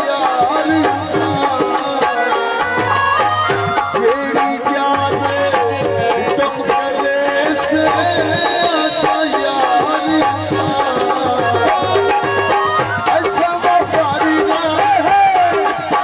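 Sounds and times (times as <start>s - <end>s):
hand drum beat: 0.0s - 16.0s
harmonium melody: 0.0s - 16.0s.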